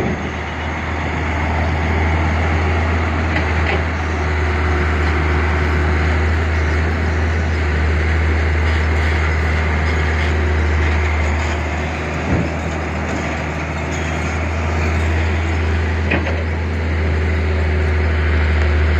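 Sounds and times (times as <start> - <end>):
diesel truck engine rumbling: 0.0 - 18.9.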